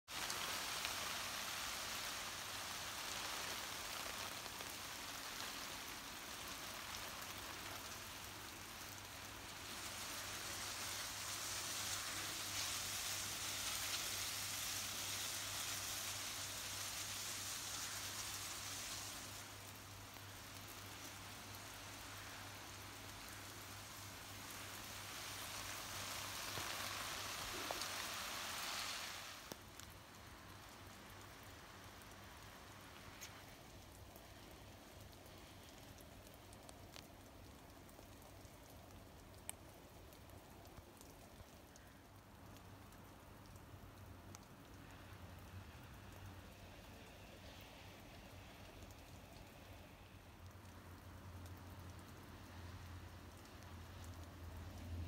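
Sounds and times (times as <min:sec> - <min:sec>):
sprinkler spray pattering on leaves: 0:00.1 - 0:55.0.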